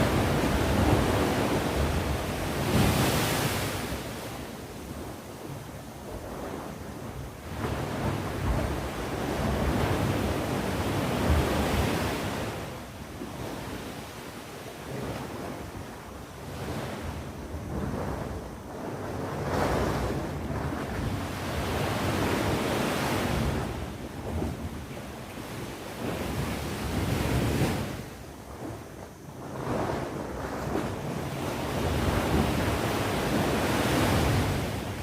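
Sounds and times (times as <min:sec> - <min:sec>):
sea waves breaking on shore: 0:00.0 - 0:35.0
wind rumble on microphone: 0:00.0 - 0:35.0.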